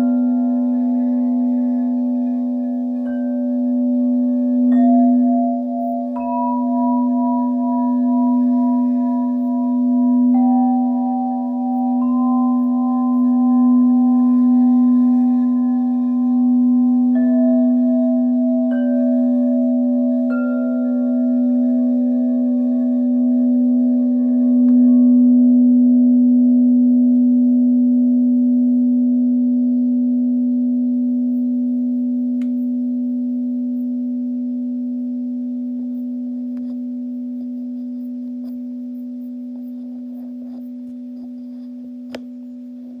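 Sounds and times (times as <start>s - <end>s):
bowl bell ringing: 0.0s - 43.0s.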